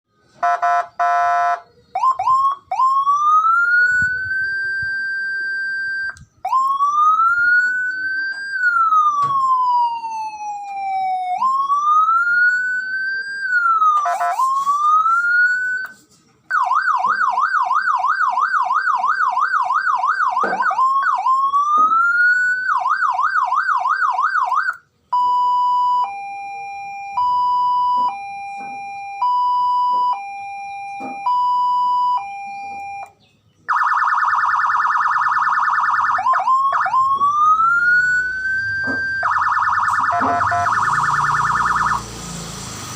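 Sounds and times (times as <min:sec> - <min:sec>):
electronic siren cycling tones: 0:00.4 - 0:42.9.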